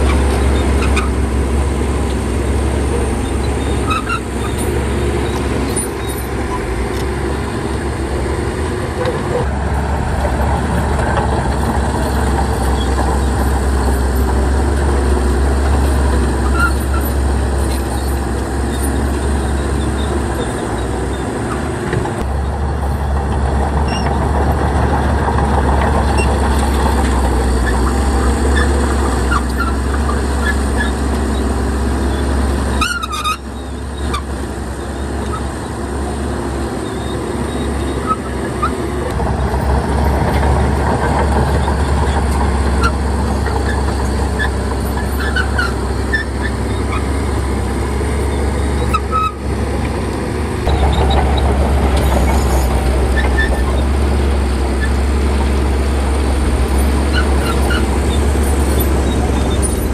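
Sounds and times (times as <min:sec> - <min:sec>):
heavy diesel machinery engine drone: 0:00.0 - 0:59.9.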